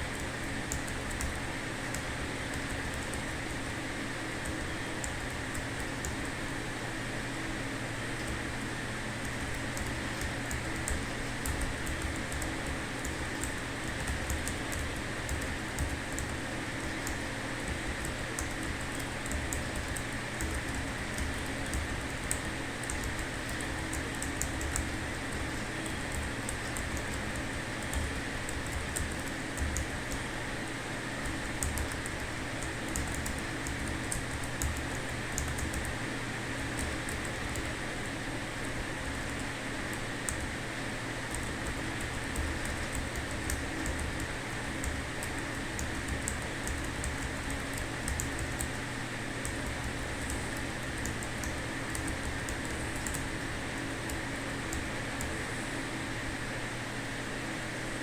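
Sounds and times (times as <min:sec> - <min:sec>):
computer keyboard typing: 0:00.1 - 0:03.4, 0:04.4 - 0:06.4, 0:09.2 - 0:30.3, 0:31.2 - 0:36.0, 0:36.6 - 0:40.5, 0:41.3 - 0:55.4.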